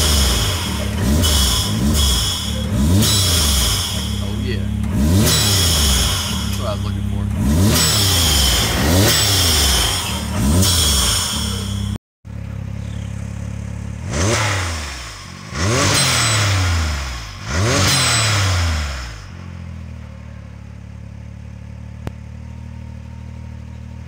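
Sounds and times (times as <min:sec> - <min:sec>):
engine revving in throttle blips: 0:00.0 - 0:20.4.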